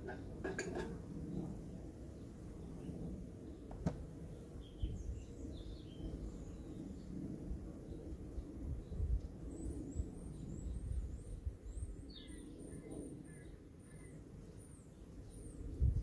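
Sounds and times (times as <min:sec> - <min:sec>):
small birds chirping: 0:02.1 - 0:16.0.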